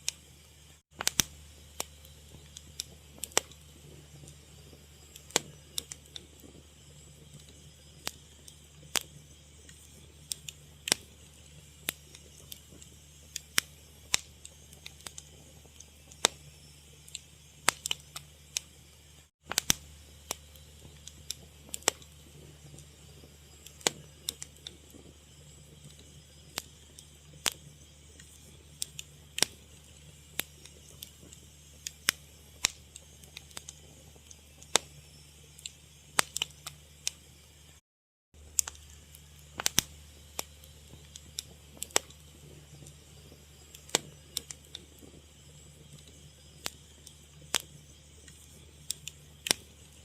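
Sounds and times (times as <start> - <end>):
wood fire crackling: 0.0 - 37.8, 38.4 - 50.0.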